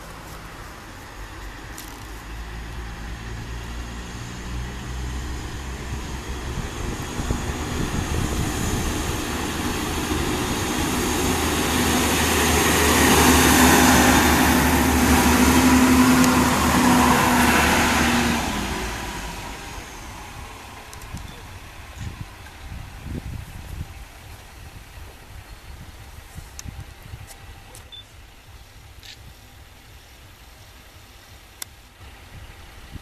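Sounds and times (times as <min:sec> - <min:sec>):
diesel railcar engine hum: 0:00.0 - 0:33.0.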